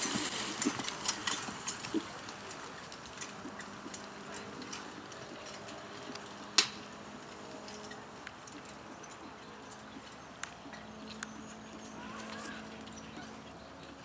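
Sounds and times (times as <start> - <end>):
harness and carriage clinks: 0.0 - 14.0
horse hooves trotting on grass: 0.0 - 14.0.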